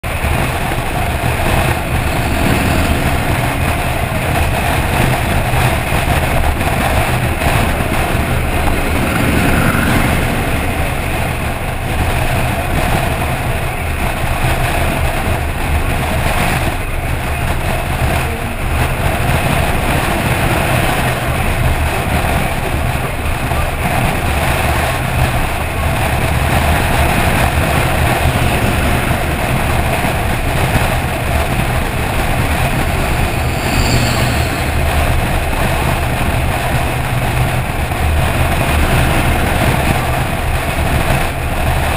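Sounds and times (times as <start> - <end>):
wind and road noise: 0.0 - 41.9.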